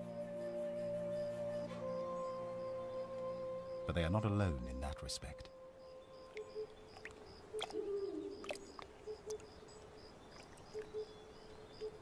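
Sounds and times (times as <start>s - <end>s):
insects chirping: 1.9s - 12.0s.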